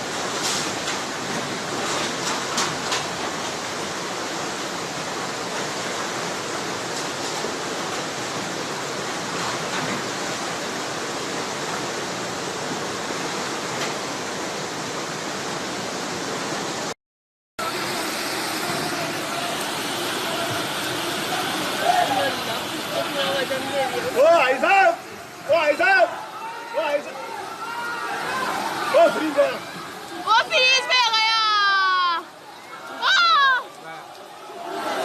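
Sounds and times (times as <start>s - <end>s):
floodwater rushing: 0.0s - 17.0s, 17.6s - 35.0s
water splashes: 0.0s - 17.0s, 17.6s - 35.0s.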